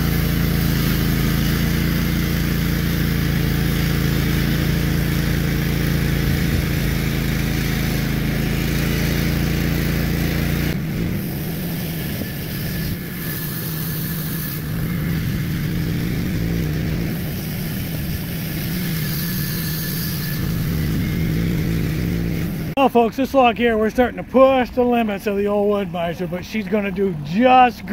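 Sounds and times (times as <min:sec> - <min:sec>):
bandsaw mill engine: 0:00.0 - 0:27.9.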